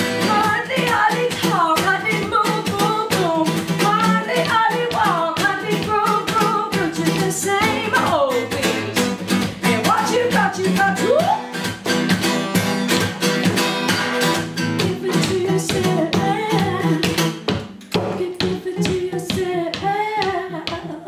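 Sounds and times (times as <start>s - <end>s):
person singing wordlessly: 0.0s - 11.4s, 14.8s - 17.2s, 18.0s - 21.0s
acoustic guitar strumming: 0.0s - 19.8s.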